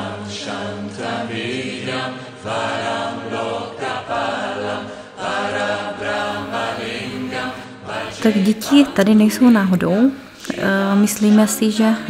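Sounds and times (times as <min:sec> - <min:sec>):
voices chanting held notes: 0:00.0 - 0:12.0.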